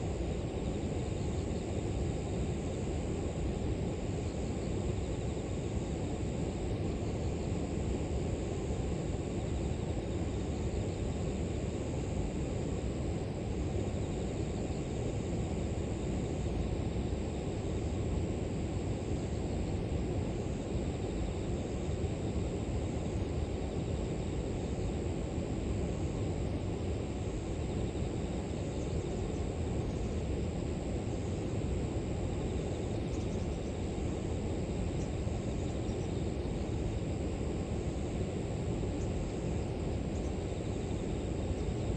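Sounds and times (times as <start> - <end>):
high insect trill: 0.0 - 41.9.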